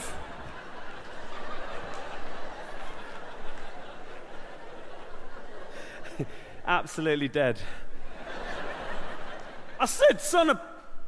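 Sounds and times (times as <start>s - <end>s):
audience laughing: 0.0s - 10.6s.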